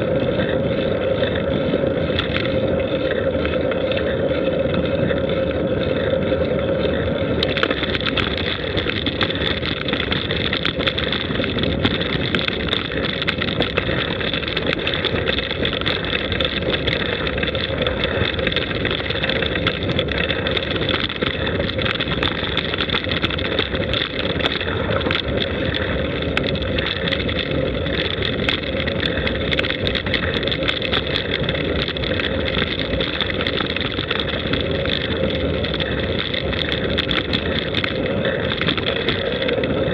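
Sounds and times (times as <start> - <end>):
rolling road noise: 0.0 - 39.9
rushing wind: 0.0 - 39.9
small clicks and rattles: 0.0 - 39.9.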